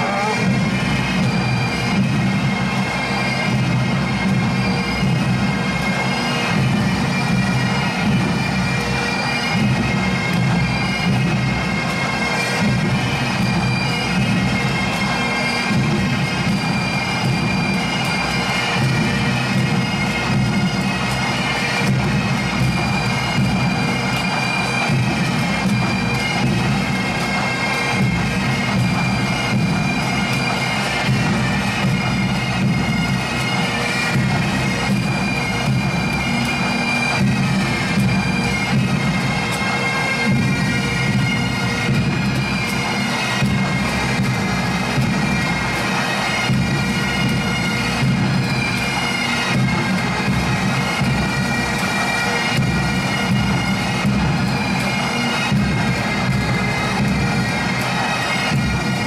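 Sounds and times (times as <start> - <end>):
bagpipes playing: 0.0 - 59.0.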